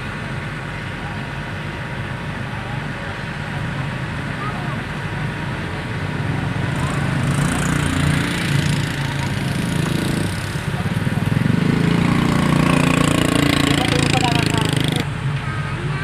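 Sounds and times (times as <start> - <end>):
truck engine under load: 0.0 - 16.0.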